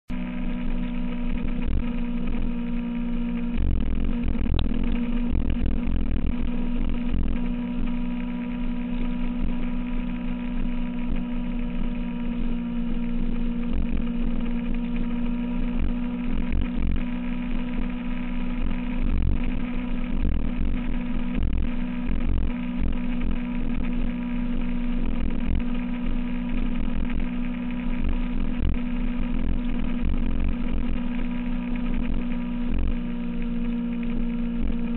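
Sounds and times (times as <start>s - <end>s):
motorcycle engine cruising: 0.1s - 34.9s.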